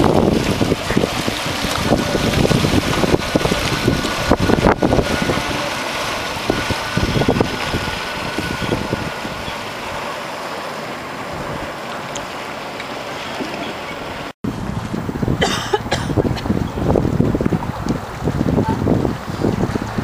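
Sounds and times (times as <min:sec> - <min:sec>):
rushing water from boat wake: 0:00.0 - 0:20.0
wind buffeting microphone: 0:00.0 - 0:20.0.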